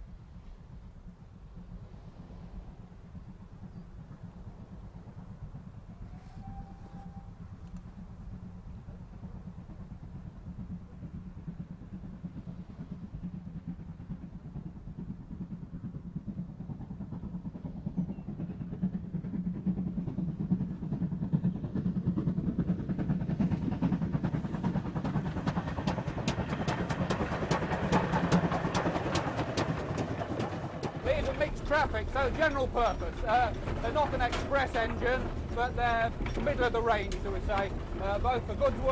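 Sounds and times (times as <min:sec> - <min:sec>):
steam locomotive exhaust beats: 0:00.0 - 0:38.9.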